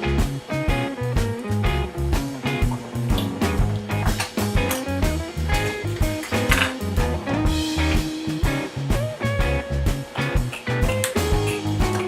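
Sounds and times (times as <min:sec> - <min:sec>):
guitar-led music with beat: 0:00.0 - 0:12.0.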